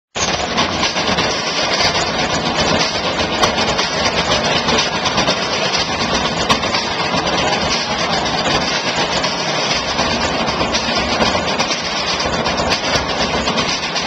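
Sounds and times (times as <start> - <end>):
drums on barrels and buckets: 0.2 - 14.0.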